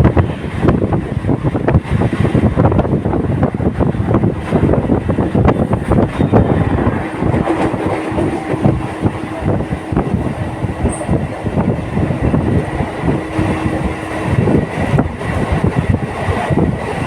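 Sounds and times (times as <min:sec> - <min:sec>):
train wheels clattering on track: 0:00.0 - 0:17.0.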